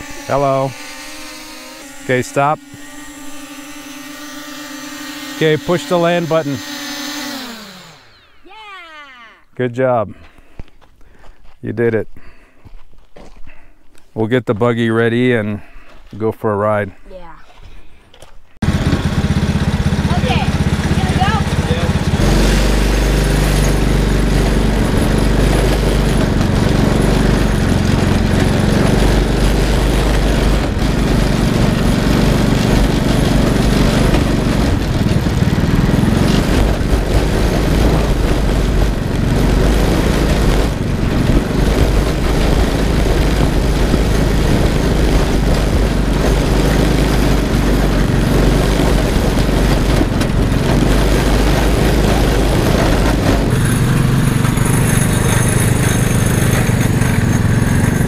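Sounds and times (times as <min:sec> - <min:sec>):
small go-kart engine running: 0:00.0 - 0:09.4, 0:18.6 - 0:58.0.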